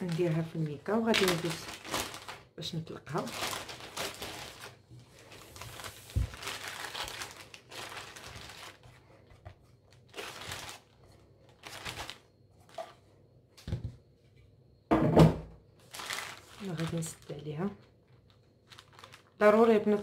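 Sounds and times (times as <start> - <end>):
plastic bag crinkling: 0.0 - 12.9, 15.8 - 20.0.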